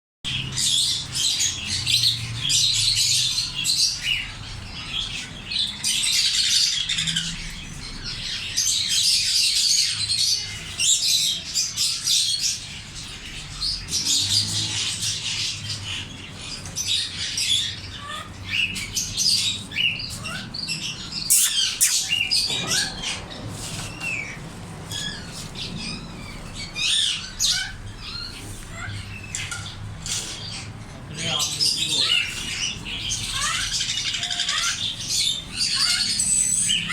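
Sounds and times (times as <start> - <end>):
parrots chirping and squawking: 0.3 - 36.9.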